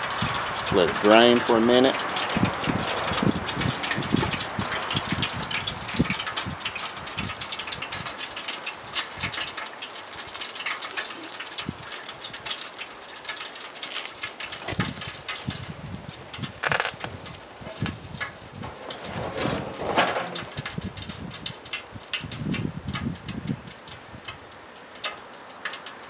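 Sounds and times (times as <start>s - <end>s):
hot oil crackling and dripping: 0.0s - 26.0s.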